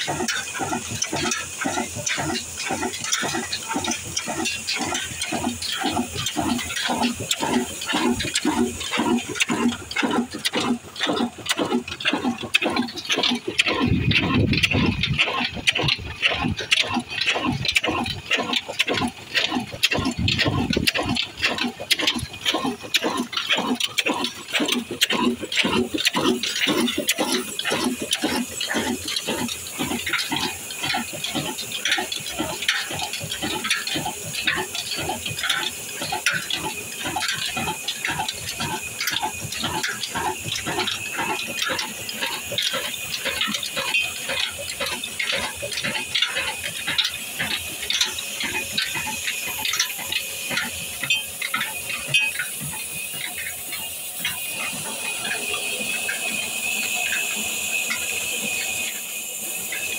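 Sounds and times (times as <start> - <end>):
stationary engine running rhythmically: 0.0 - 59.9.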